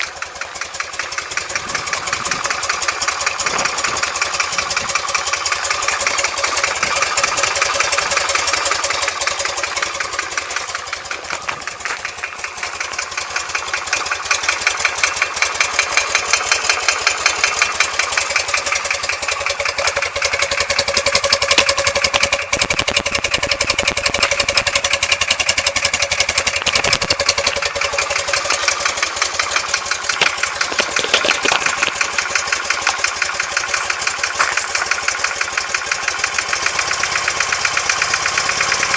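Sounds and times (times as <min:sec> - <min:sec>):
engine knock: 0:00.0 - 0:38.9
motorcycle engine idling: 0:00.0 - 0:38.9.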